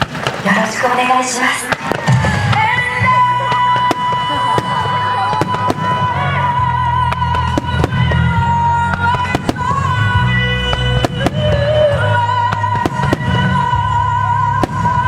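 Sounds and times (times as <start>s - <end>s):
fireworks cracking and banging: 0.0s - 15.0s
loud music over loudspeakers: 0.6s - 15.0s.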